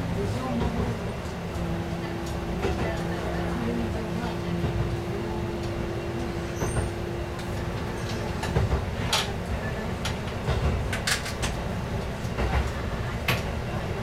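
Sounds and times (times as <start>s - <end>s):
train engine and wheels rumbling: 0.0s - 14.0s.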